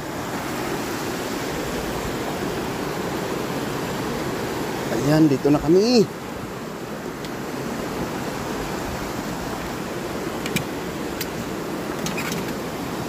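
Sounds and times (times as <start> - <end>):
river rapids rushing over rocks: 0.0 - 13.0.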